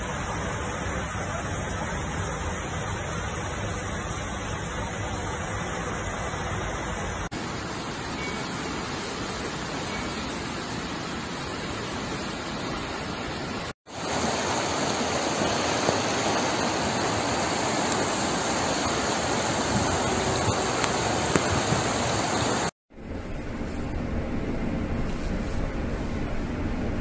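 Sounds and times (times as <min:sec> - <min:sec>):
fast-flowing river rushing: 0:00.0 - 0:22.7
water rushing over path: 0:00.0 - 0:22.8.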